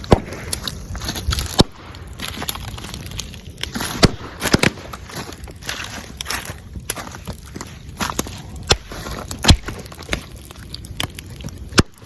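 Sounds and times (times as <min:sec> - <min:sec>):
bonfire crackling: 0:00.0 - 0:12.0
sharp pops of burning bamboo: 0:00.0 - 0:12.0.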